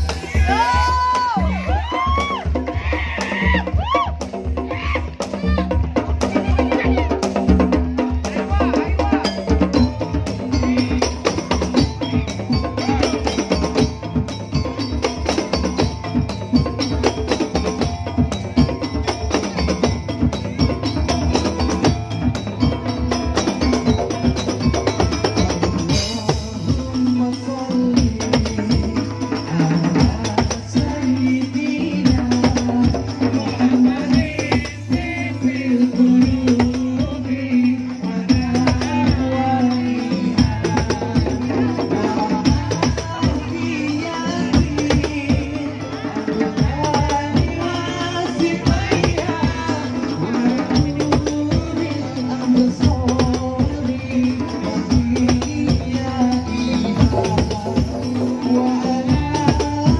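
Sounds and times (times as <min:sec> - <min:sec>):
hand drums: 0:00.0 - 0:59.9
wooden percussion: 0:00.0 - 0:59.9.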